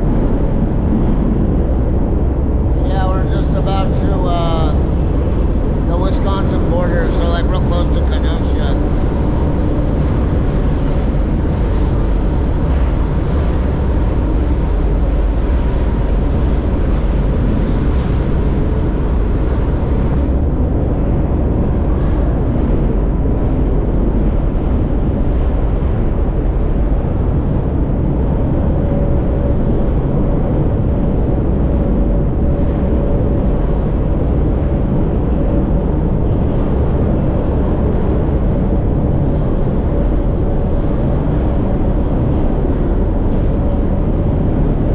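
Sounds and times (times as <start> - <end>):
freight train rumbling and rattling: 0.0 - 44.9.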